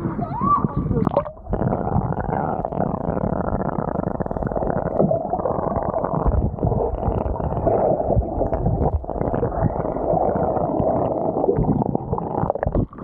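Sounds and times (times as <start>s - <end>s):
underwater gurgling and rumbling: 0.0s - 13.0s.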